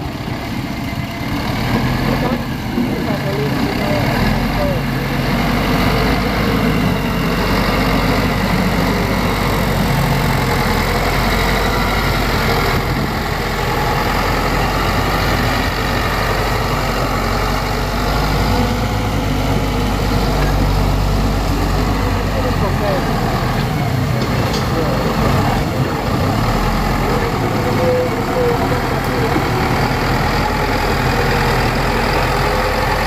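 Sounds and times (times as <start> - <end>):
diesel machine engine running: 0.0 - 33.0.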